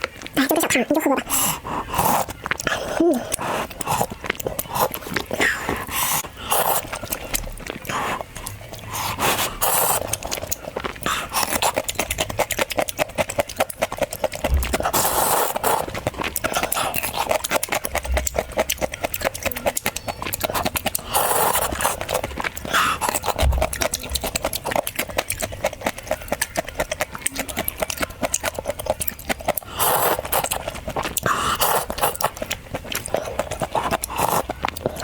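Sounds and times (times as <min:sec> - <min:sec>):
crunchy chewing: 0:00.0 - 0:35.0
slurps: 0:00.0 - 0:35.0.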